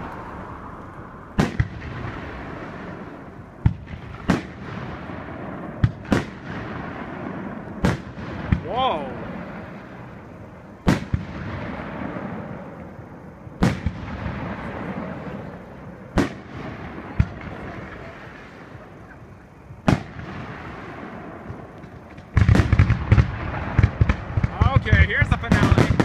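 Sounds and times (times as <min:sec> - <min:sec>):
firework shells booming: 0:00.0 - 0:26.0
barrage of firework bangs and crackles: 0:01.3 - 0:26.0.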